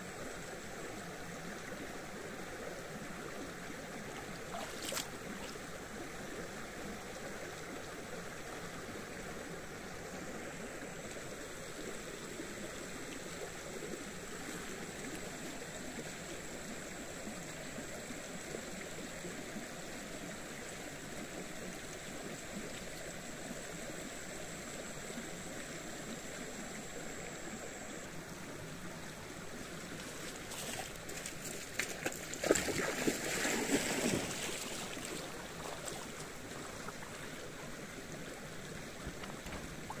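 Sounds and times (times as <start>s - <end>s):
trickling gurgling water: 0.0s - 40.0s.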